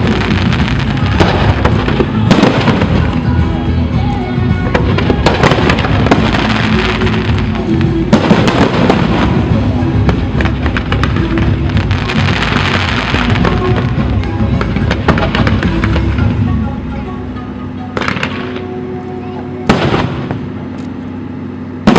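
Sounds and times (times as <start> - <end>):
fireworks bangs and crackles: 0.0 - 16.5, 18.0 - 18.7, 19.4 - 20.7
loud music: 0.0 - 20.5.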